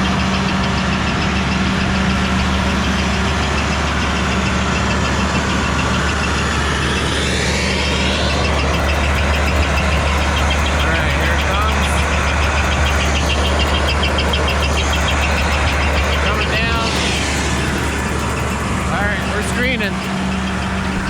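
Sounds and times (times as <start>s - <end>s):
heavy diesel machinery running: 0.0s - 21.0s
rising whine: 0.0s - 21.0s.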